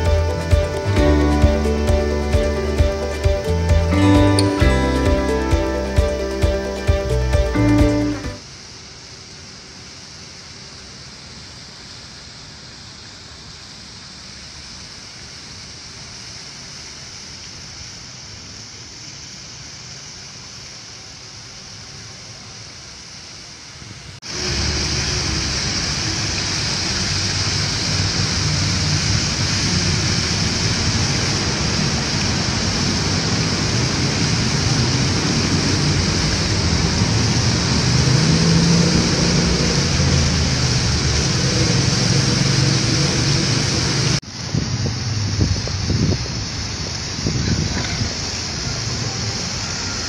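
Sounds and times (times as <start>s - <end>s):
fountain water splashing: 0.0s - 50.0s.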